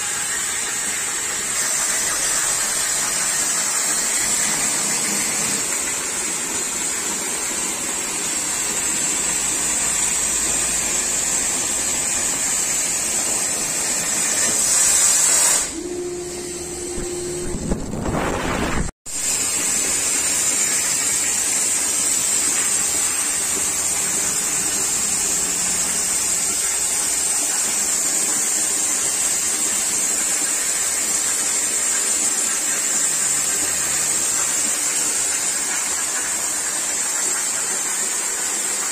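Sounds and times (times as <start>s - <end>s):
cutting torch hissing: 0.0s - 38.8s.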